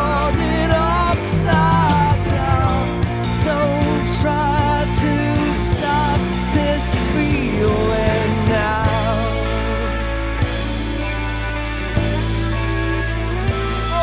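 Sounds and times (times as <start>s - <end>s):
bending lead guitar melody: 0.0s - 14.0s
drums: 0.0s - 14.0s
held low notes: 0.0s - 14.0s.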